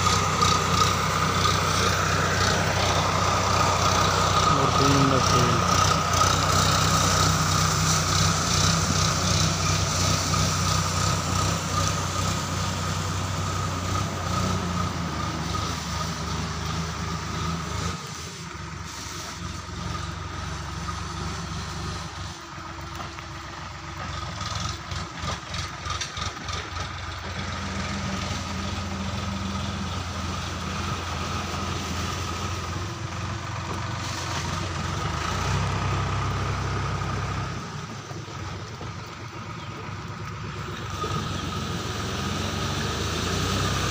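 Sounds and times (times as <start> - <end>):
distant tractor engine: 0.0 - 43.9.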